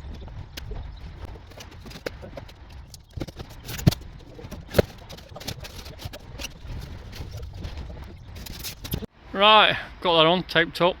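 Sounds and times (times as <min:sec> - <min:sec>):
knocks and clicks: 0:00.0 - 0:09.1
low background rumble: 0:00.0 - 0:09.4.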